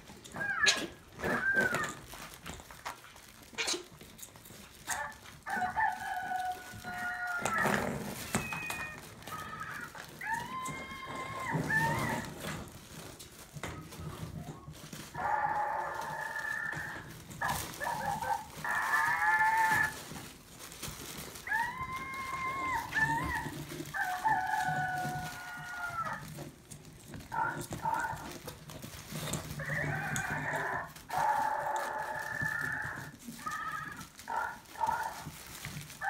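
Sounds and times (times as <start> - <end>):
puppies whining: 0.1 - 2.8, 3.4 - 36.0.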